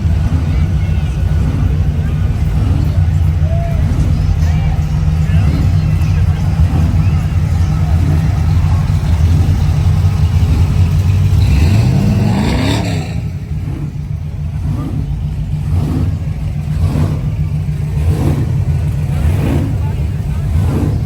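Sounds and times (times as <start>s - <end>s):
car engine running and revving: 0.0s - 21.0s.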